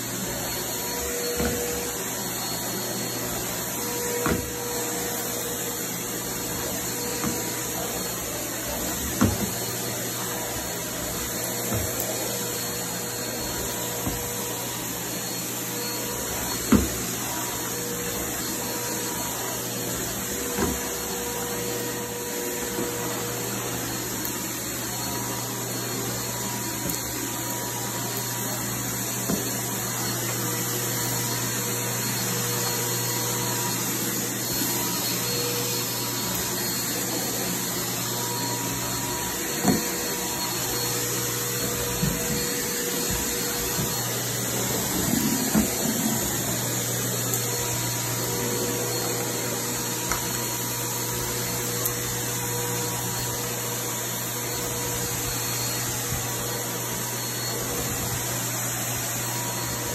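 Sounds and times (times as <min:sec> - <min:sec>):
vacuum cleaner on carpet: 0:00.0 - 0:59.9.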